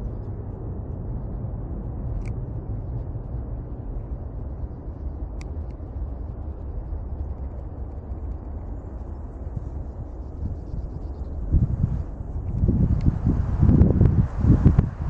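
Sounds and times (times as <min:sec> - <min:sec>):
jet airliner engines rumbling: 0:00.0 - 0:15.0.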